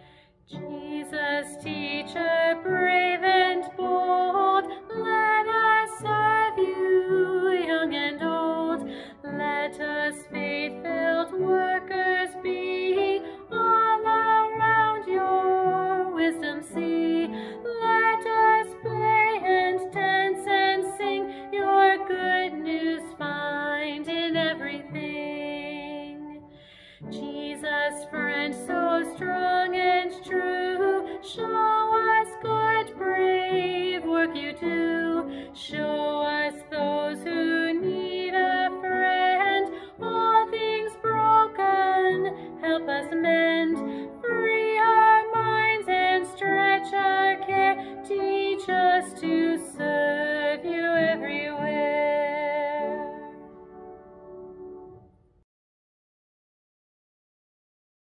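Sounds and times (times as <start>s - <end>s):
woman singing a hymn: 0.0s - 53.5s.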